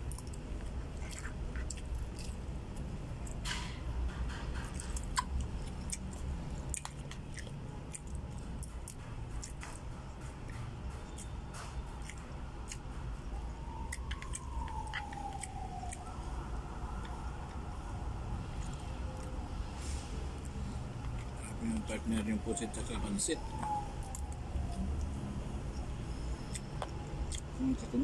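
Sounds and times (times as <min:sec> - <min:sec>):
person chewing food: 0:00.0 - 0:03.5, 0:04.1 - 0:19.4, 0:20.3 - 0:21.9, 0:23.5 - 0:27.6.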